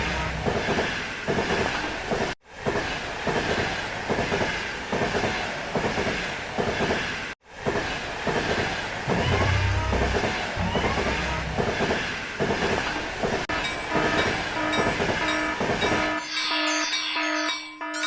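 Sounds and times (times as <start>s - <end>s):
train clickety-clack on rails: 0.0s - 18.0s.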